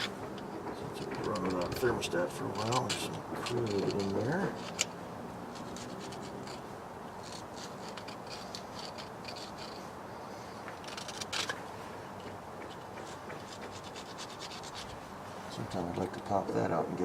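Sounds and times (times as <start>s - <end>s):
scraping strokes on metal: 0.0s - 15.1s.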